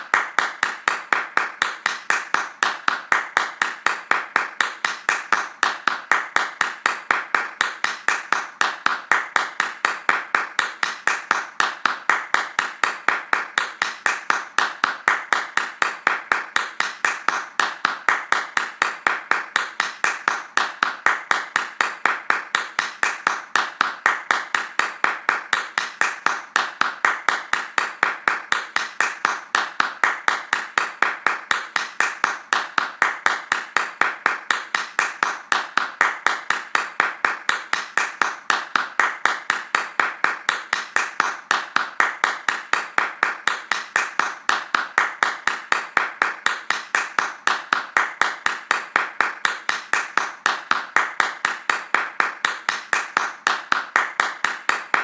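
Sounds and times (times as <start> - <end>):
hands clapping fast: 0.0 - 55.0.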